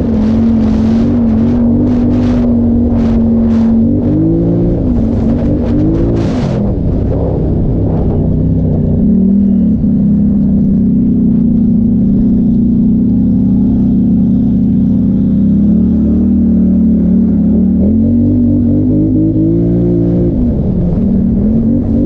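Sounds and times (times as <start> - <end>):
atv engine running hard: 0.0 - 22.0.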